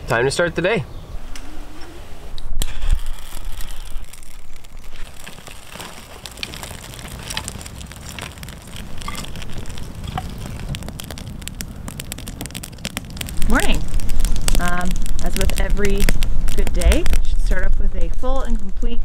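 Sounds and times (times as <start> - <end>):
low rumble: 1.1 - 19.0
campfire crackling and popping: 2.3 - 19.0.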